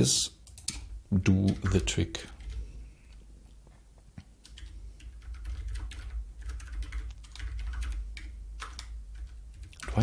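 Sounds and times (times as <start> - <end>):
computer keyboard typing: 0.4 - 3.2, 4.4 - 10.0.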